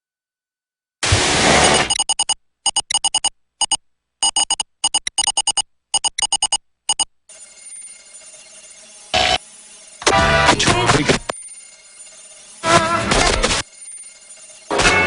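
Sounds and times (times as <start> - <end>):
morse code beeps: 1.6 - 15.0.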